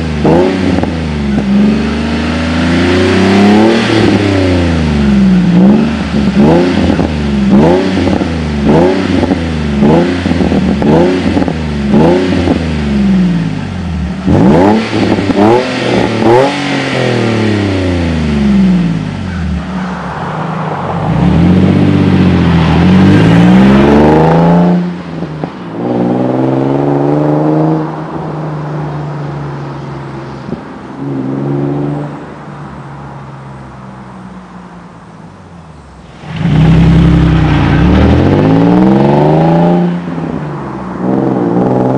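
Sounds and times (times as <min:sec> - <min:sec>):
car exhaust revving: 0:00.0 - 0:20.2, 0:20.9 - 0:28.6, 0:36.0 - 0:41.9.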